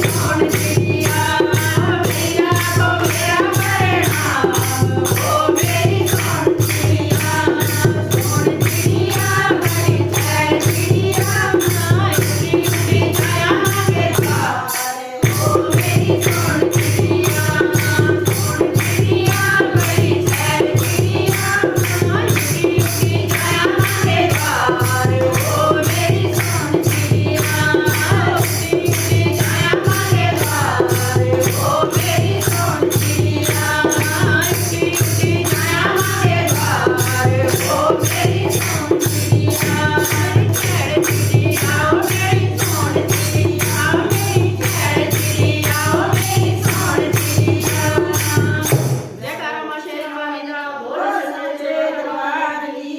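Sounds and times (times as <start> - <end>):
hand percussion beat: 0.0 - 49.3
group singing: 0.0 - 52.9.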